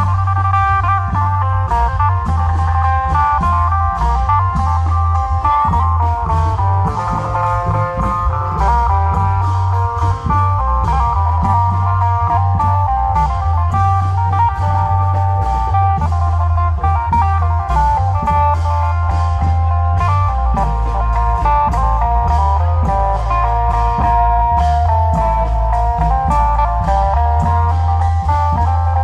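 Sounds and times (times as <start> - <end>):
drum beats: 0.0 - 29.0
heavy bass: 0.0 - 29.0
plucked string lead melody: 0.0 - 29.0.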